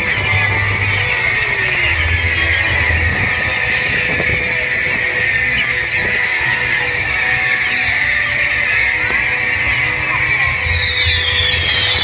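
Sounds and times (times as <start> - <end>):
firework whistles gliding in pitch: 0.0 - 12.0.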